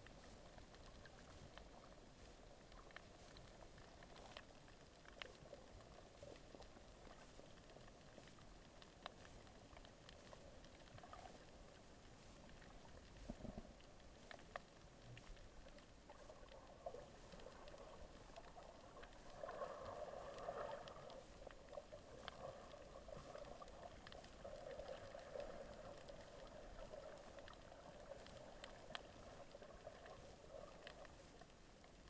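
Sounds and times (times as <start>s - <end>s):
muffled underwater water movement: 0.0s - 32.0s.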